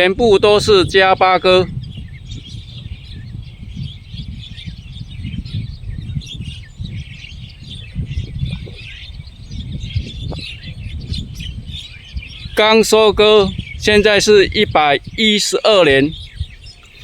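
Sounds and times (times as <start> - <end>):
birds chattering and whistling: 0.0 - 17.0.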